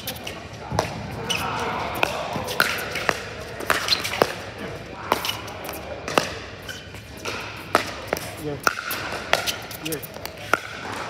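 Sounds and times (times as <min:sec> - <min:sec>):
paddles hitting plastic ball: 0:00.1 - 0:06.4, 0:07.1 - 0:11.0.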